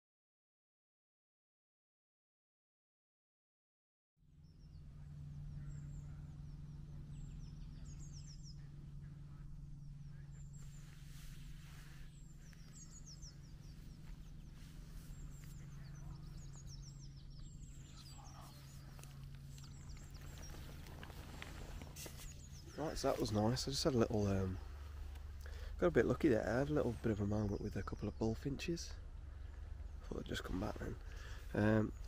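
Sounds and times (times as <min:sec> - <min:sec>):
steady low hum: 0:04.2 - 0:32.0
songbirds chirping: 0:04.3 - 0:32.0.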